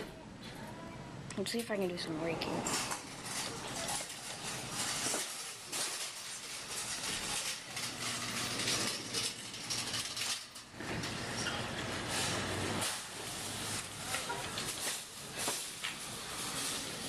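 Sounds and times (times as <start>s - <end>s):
claw machine whirring and rattling: 2.6s - 17.0s.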